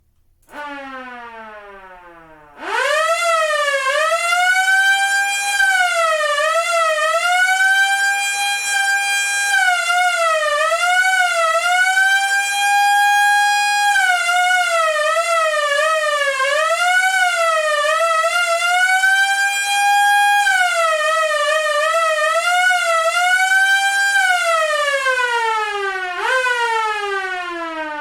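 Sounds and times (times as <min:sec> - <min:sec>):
police siren wailing: 0:00.5 - 0:28.0.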